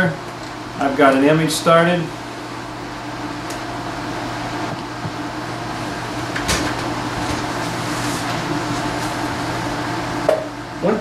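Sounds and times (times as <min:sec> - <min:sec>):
steady low mechanical hum: 0:00.0 - 0:11.0.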